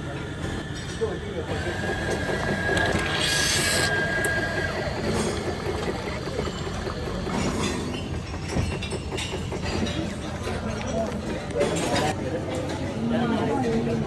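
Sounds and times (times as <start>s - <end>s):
train running: 0.0s - 11.4s.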